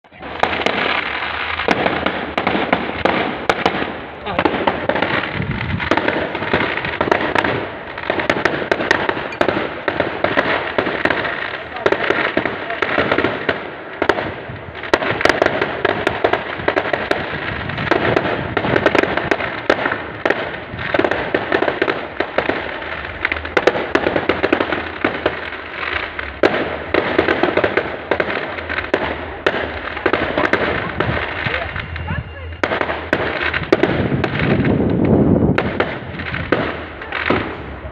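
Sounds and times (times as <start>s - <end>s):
fireworks crackling and banging: 0.0s - 37.9s.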